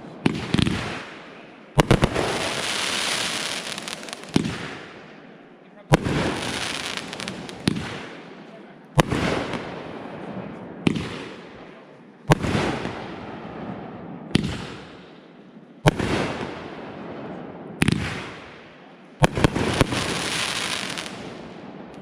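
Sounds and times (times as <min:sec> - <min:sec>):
fireworks bangs: 0:00.0 - 0:05.2, 0:05.9 - 0:08.4, 0:09.0 - 0:11.7, 0:12.3 - 0:15.2, 0:15.8 - 0:22.0.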